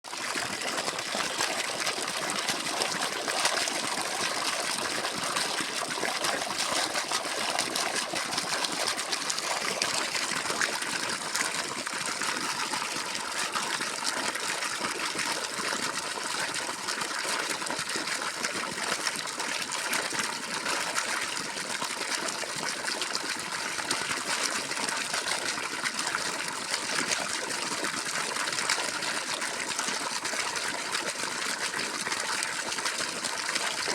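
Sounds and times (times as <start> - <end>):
water gushing from pipe: 0.0 - 33.9.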